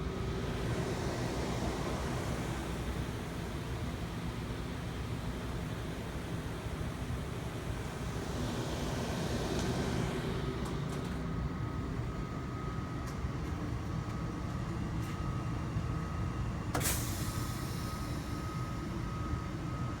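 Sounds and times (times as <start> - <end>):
machinery hum and rumble: 0.0 - 20.0.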